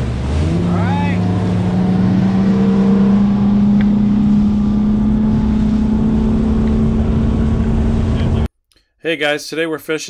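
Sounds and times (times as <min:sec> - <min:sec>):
outboard motor running at speed: 0:00.0 - 0:08.5.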